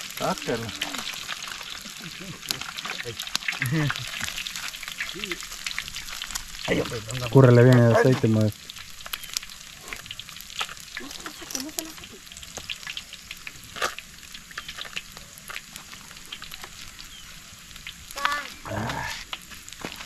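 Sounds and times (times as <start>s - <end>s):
hot oil sizzling in a frying pan: 0.0s - 20.0s.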